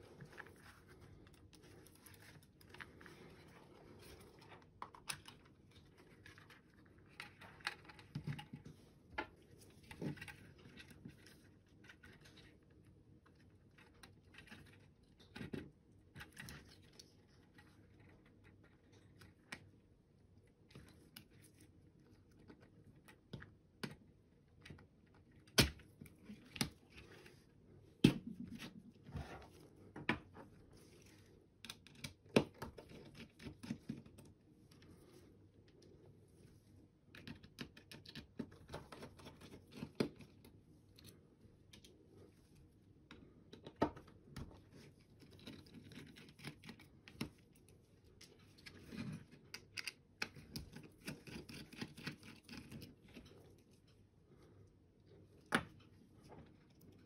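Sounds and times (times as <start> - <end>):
soft handling of plastic parts: 0.0 - 57.0.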